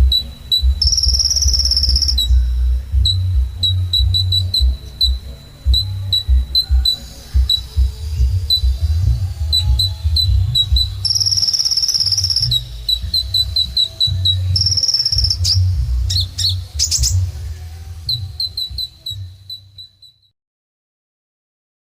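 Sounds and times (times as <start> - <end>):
low rumble: 0.0 - 19.5
bird chirping: 0.0 - 20.3
buzzy bird trill: 0.0 - 20.3.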